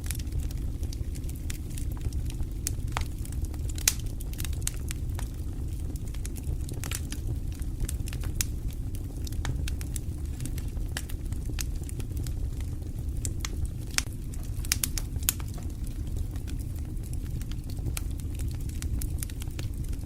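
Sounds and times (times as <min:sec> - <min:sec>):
fire crackling in fireplace: 0:00.0 - 0:20.0.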